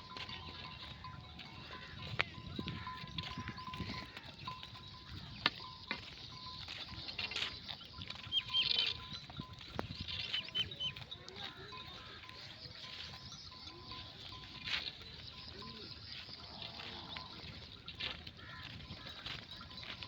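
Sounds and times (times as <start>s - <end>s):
animals rustling: 0.0s - 20.0s
sheep bells clinking: 0.0s - 20.0s.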